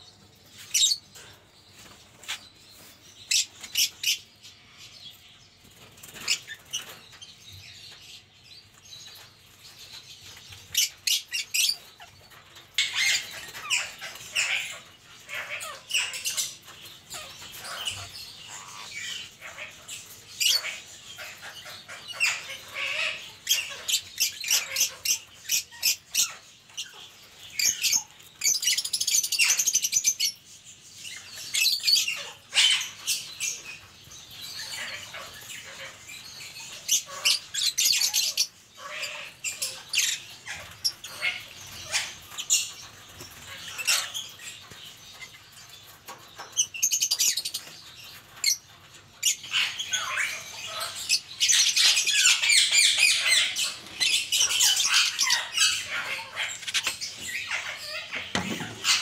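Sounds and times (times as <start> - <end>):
parakeets squabbling: 0.4 - 59.0.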